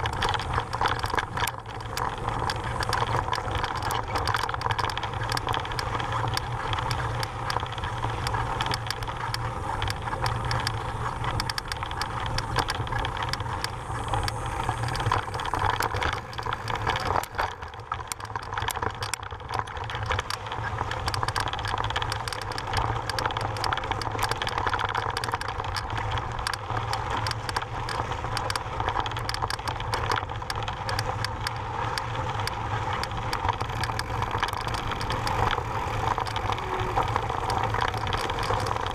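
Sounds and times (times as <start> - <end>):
steady low rumble: 0.0 - 24.6, 25.6 - 38.9
bike rattling on gravel: 0.0 - 38.9.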